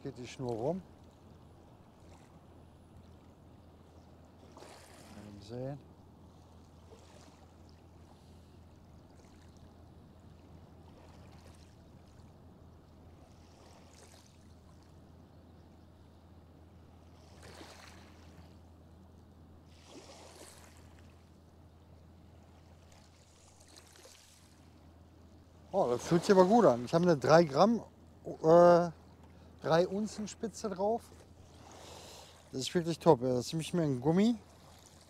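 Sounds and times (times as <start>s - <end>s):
low steady hum: 0.0s - 35.0s
river water washing at bank: 0.0s - 35.0s.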